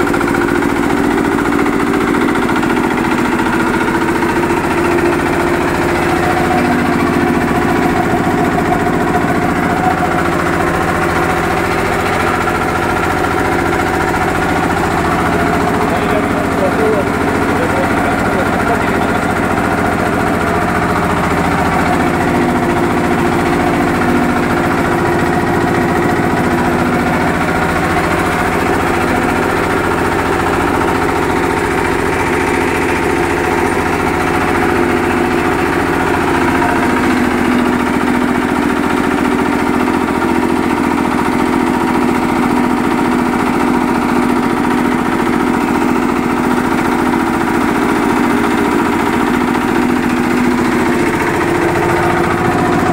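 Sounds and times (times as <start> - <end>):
diesel engine running: 0.0 - 52.9
piston air compressor: 0.0 - 52.9.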